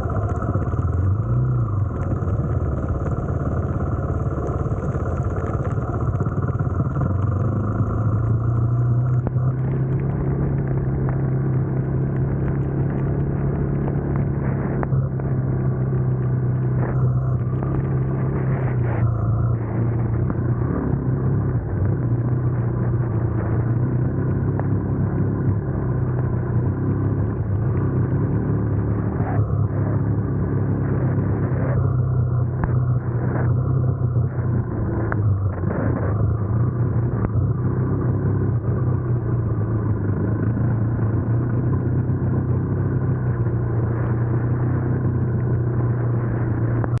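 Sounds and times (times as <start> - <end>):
quad engine running: 0.0 - 47.0.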